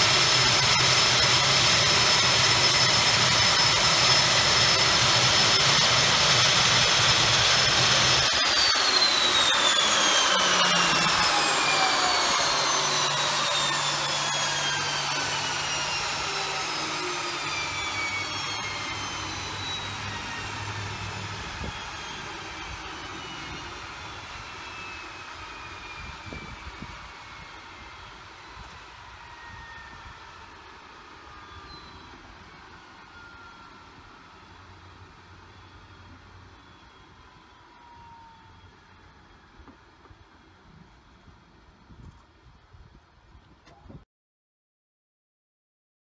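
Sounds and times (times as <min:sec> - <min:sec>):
turboprop engine whine: 0:00.0 - 0:44.0.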